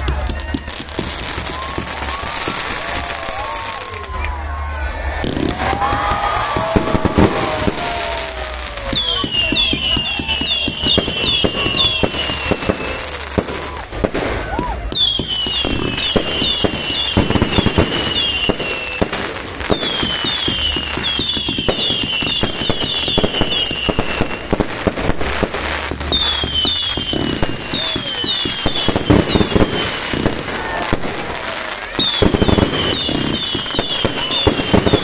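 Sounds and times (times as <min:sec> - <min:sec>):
fireworks popping and crackling: 0:00.0 - 0:04.4, 0:05.2 - 0:35.0.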